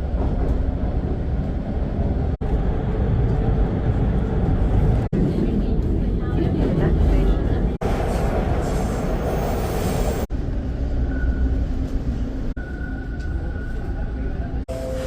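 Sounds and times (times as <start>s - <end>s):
subway train rumble and rail noise: 0.0s - 15.0s.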